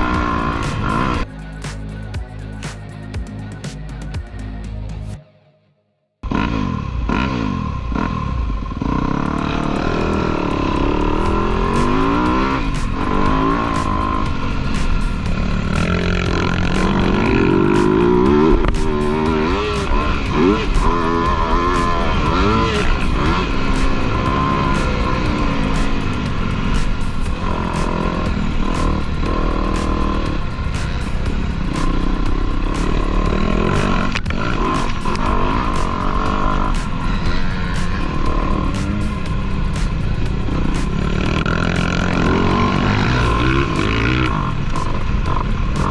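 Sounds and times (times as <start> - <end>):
dirt bike engines revving: 0.0 - 4.1, 6.3 - 45.9.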